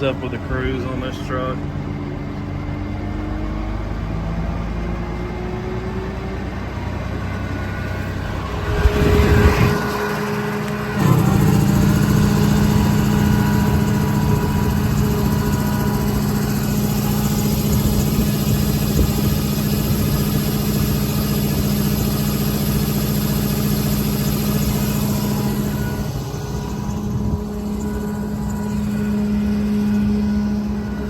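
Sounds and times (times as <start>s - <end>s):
diesel engine running steadily: 0.0s - 31.0s.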